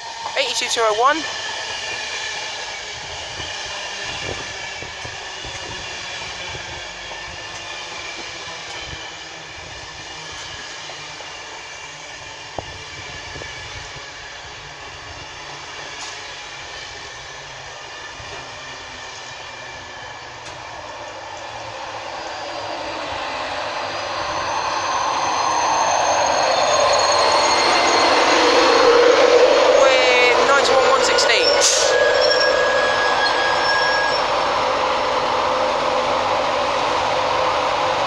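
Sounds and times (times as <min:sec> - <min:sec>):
train low rumble: 0:00.0 - 0:38.0
train steady tones: 0:00.0 - 0:38.0.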